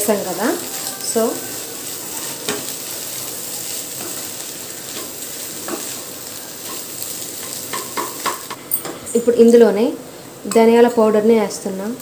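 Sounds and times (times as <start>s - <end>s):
food sizzling in a pan: 0.0s - 10.8s.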